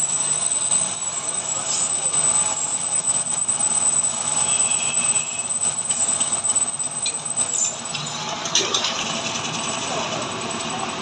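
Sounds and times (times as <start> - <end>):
high-pitched whine: 0.0 - 11.0
metal lathe running: 0.0 - 11.0.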